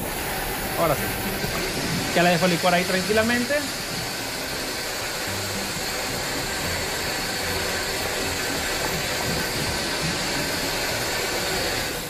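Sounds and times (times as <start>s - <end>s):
blender motor running: 0.0s - 12.0s.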